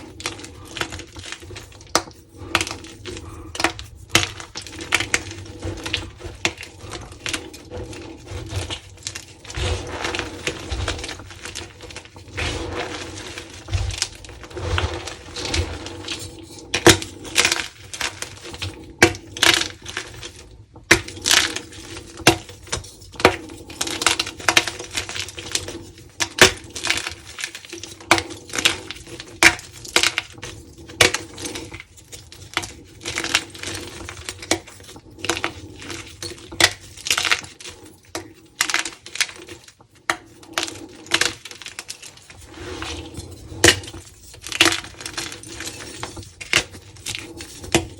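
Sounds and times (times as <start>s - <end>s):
chalk being crushed: 0.0s - 47.9s.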